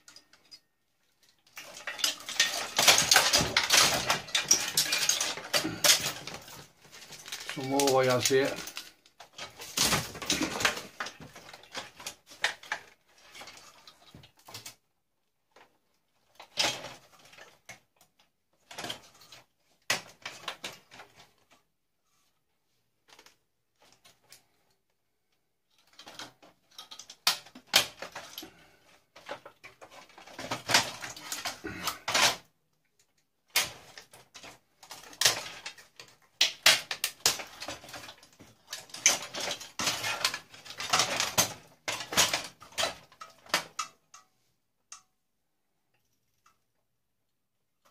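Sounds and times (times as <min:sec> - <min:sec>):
plastic and metal parts rattling: 0:00.0 - 0:14.8, 0:15.5 - 0:21.6, 0:23.0 - 0:24.8, 0:25.6 - 0:45.1.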